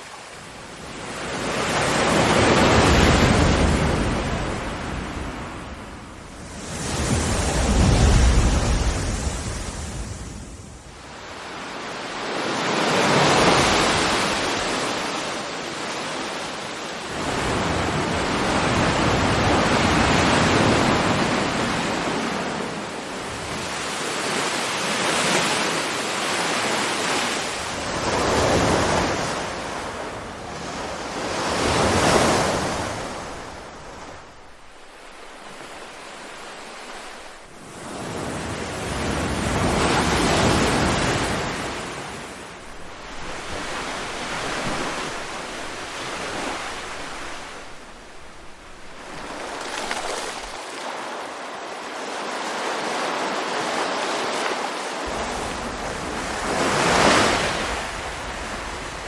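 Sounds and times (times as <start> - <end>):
ocean waves surf: 0.0 - 59.0.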